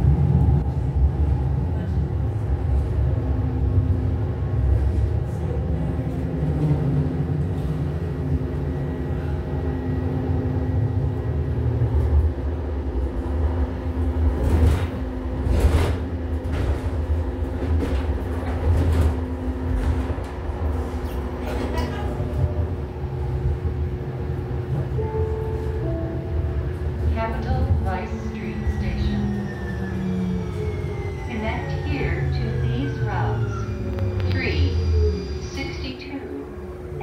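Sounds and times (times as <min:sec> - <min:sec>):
train rumbling on track: 0:00.0 - 0:37.0.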